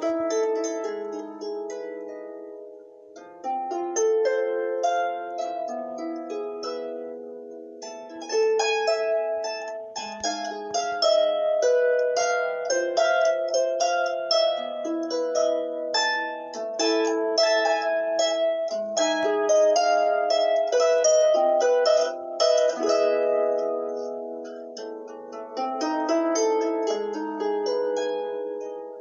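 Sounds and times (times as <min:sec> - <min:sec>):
harp melody: 0:00.0 - 0:29.0.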